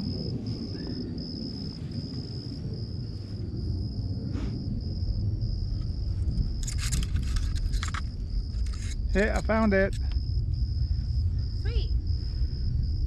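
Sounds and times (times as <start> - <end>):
insects trilling: 0.0 - 13.0
low rumble: 0.0 - 13.0.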